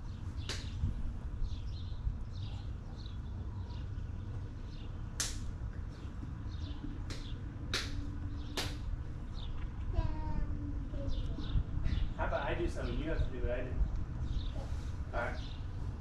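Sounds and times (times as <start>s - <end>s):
low steady rumble: 0.0s - 16.0s
small birds chirping: 0.0s - 16.0s.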